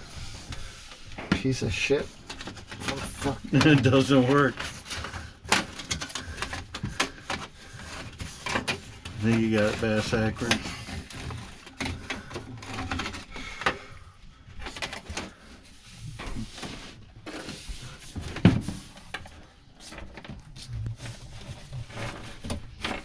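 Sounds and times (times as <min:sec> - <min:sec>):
vent duct rustling and clicking: 0:00.0 - 0:23.0.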